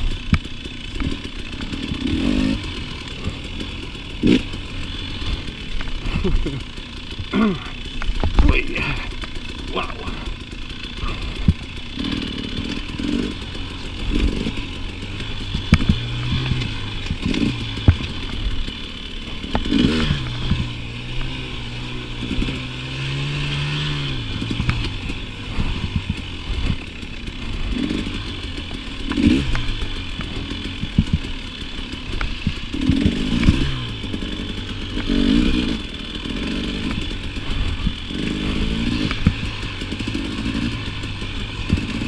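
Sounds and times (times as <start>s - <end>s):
dirt bike engine revving: 0.0s - 42.0s
knocks and rattles from bike: 0.0s - 42.0s.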